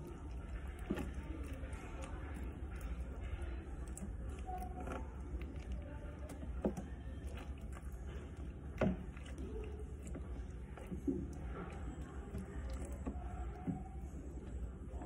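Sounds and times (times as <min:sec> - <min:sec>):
low steady hum: 0:00.0 - 0:15.0
sticky squishing of honeycomb: 0:00.0 - 0:15.0.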